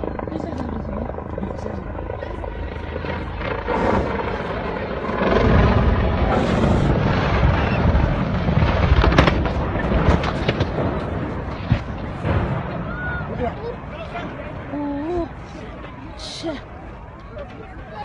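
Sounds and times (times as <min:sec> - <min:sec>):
helicopter rotor rumble: 0:00.0 - 0:18.0.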